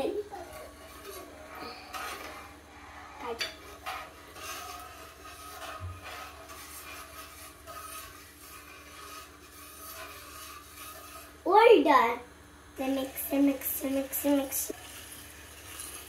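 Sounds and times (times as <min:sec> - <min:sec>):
metal spoon scraping a pan: 0:00.0 - 0:11.5, 0:12.8 - 0:16.0
faint steady hum: 0:00.0 - 0:16.0.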